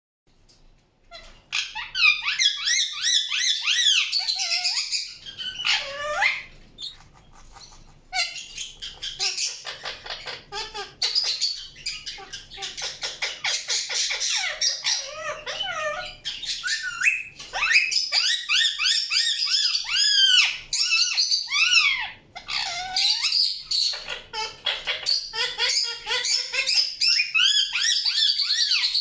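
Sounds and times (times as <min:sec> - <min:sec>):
parrot chirping and chattering: 0:01.0 - 0:29.0.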